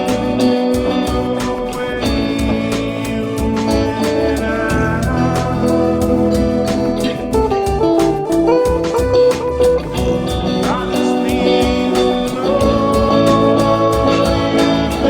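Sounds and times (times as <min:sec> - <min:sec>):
guitar-led band music: 0:00.0 - 0:15.0.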